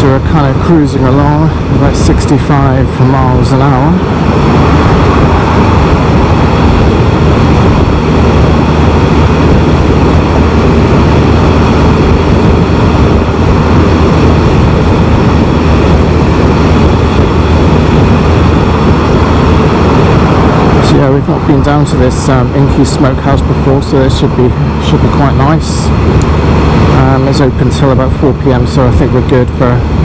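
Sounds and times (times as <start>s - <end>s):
motorcycle engine and road noise: 0.0s - 30.0s
wind rush: 0.0s - 30.0s.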